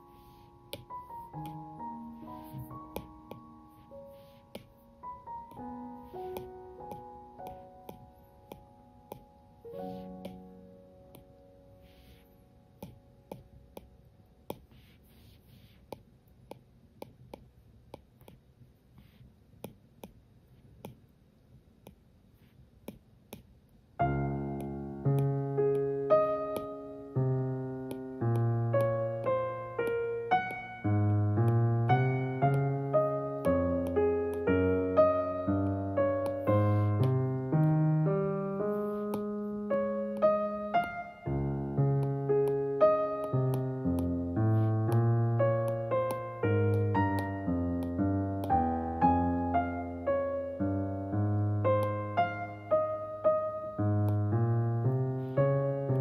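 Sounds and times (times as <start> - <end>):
solo piano music: 0.0 - 15.3, 23.9 - 56.0.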